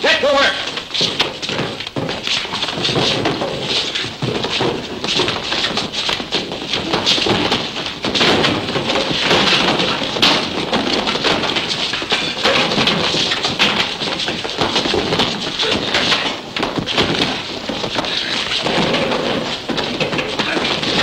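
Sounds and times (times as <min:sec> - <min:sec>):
scuffling and blows: 0:00.0 - 0:21.0
wooden chairs knocked about: 0:00.0 - 0:21.0.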